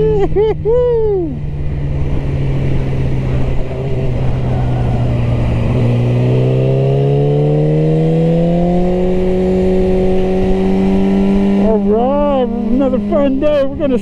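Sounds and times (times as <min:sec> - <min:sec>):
motorcycle engine accelerating: 0:00.0 - 0:14.0
wind rush: 0:00.0 - 0:14.0.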